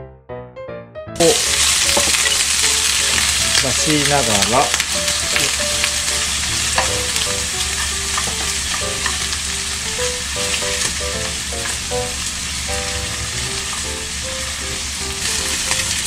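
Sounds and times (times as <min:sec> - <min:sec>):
light background melody: 0:00.0 - 0:16.0
meat sizzling in a frying pan: 0:01.2 - 0:16.0.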